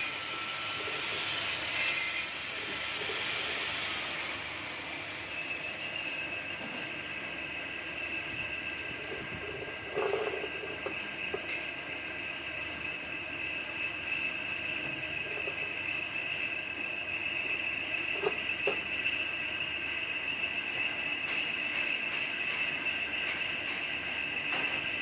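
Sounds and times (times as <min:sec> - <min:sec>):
high steady whine: 0:00.0 - 0:25.0
workshop machinery hissing: 0:00.0 - 0:25.0.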